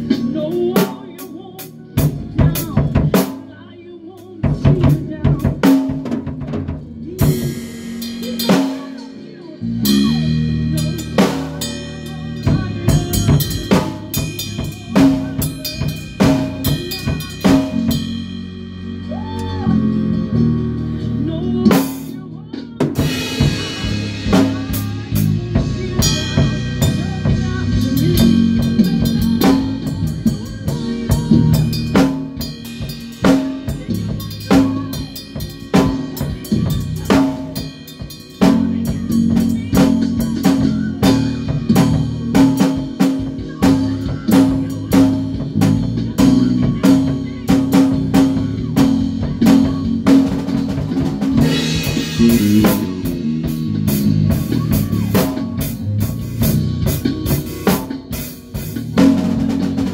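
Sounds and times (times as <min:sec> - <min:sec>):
band playing: 0:00.0 - 0:59.9.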